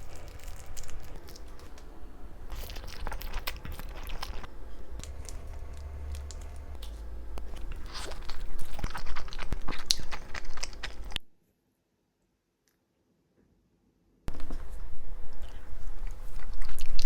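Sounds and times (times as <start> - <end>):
chewing and biting food: 0.0 - 11.2, 14.3 - 17.0.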